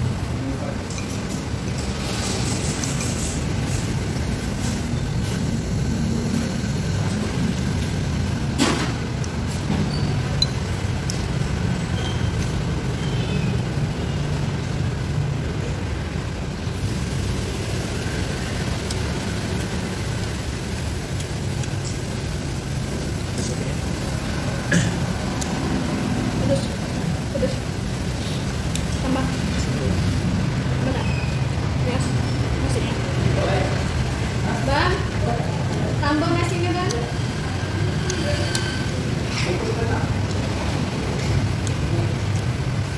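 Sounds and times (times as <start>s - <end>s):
restaurant background rumble: 0.0s - 42.9s.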